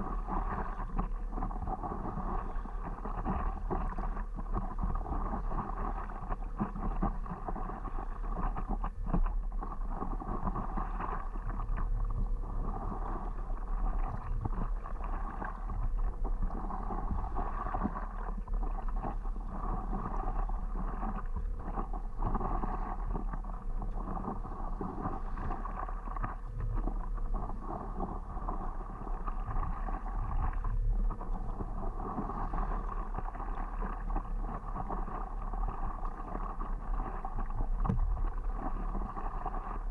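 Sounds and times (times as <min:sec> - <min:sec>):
water splashing and lapping: 0:00.0 - 0:39.9.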